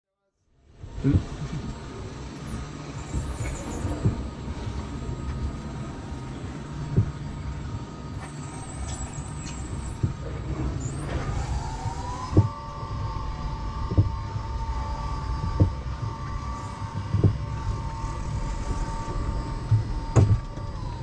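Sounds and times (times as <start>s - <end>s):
wheel whine: 0.7s - 21.0s.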